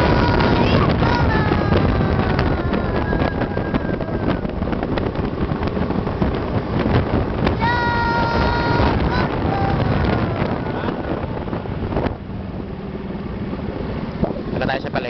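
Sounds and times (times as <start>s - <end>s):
motorcycle engine rumble: 0.0s - 14.8s
wind buffeting microphone: 0.0s - 15.0s.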